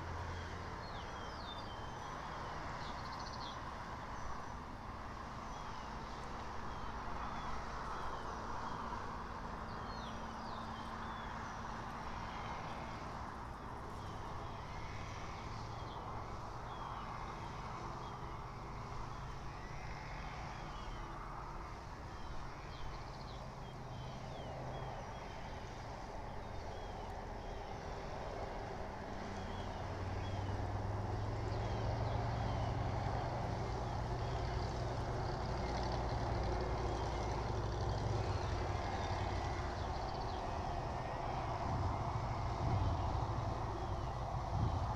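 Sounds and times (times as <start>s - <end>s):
distant traffic rumble: 0.0s - 44.9s.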